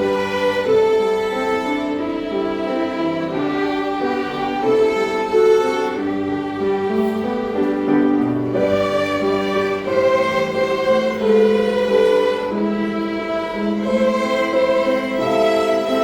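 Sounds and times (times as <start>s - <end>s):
string ensemble playing hymn: 0.0s - 16.0s.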